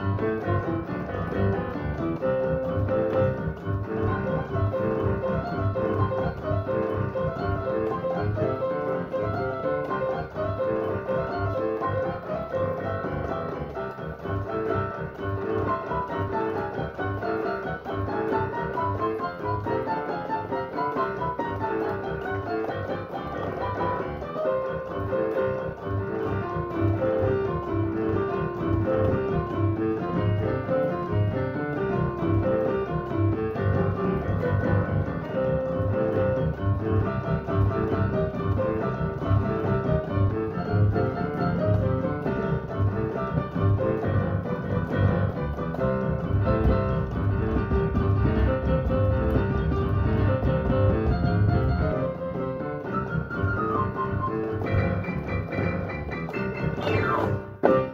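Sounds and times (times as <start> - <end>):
boogie-woogie digital piano: 0.0 - 57.9.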